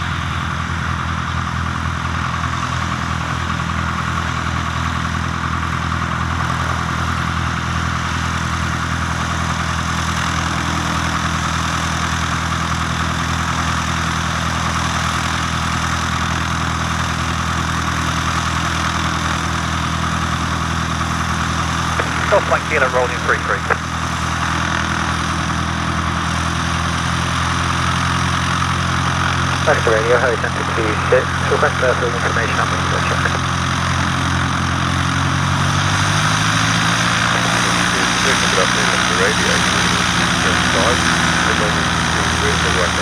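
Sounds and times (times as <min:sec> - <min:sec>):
propeller plane engine idling: 0:00.0 - 0:43.0.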